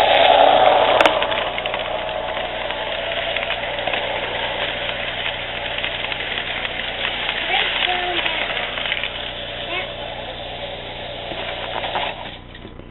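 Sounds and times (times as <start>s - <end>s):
model train rolling on track: 0.0s - 12.9s.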